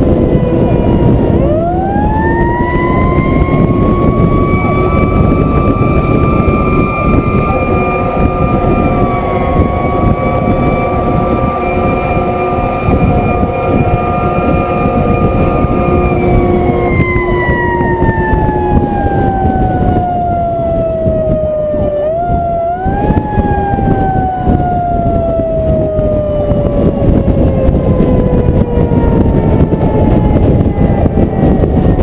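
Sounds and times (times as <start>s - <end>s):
heavy wind on microphone: 0.0s - 32.0s
mechanical siren wailing: 0.0s - 32.0s
road rumble: 0.0s - 32.0s.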